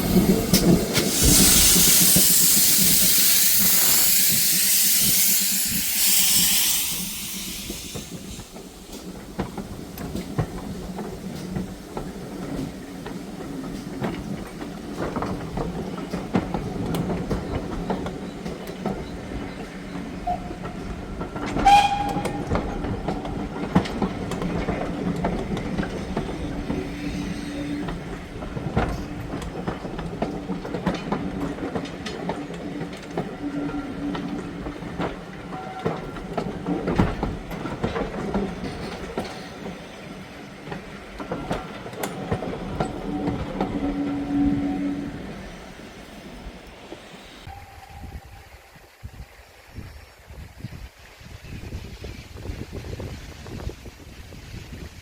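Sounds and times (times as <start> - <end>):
steam hissing: 0.0 - 20.9, 21.6 - 55.0
train wheels clicking on rails: 0.0 - 47.6.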